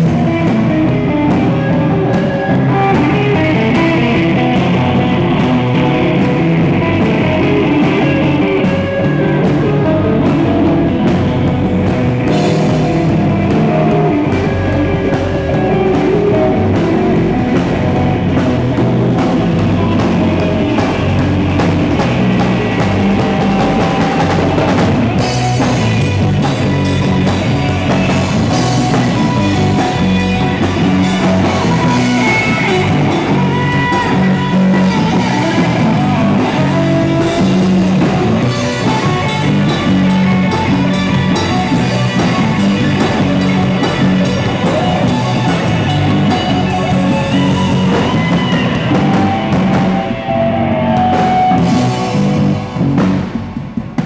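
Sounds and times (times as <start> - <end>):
driving bass line: 0.0 - 54.0
live rock band playing: 0.0 - 54.0.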